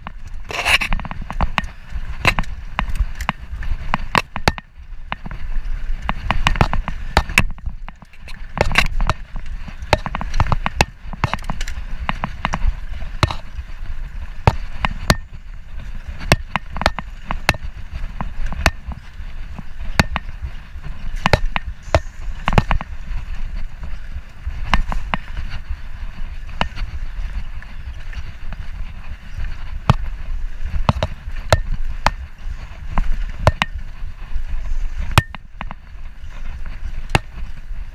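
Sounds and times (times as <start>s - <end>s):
bike rattling and knocking: 0.0s - 37.9s
wind rumble on microphone: 0.0s - 37.9s.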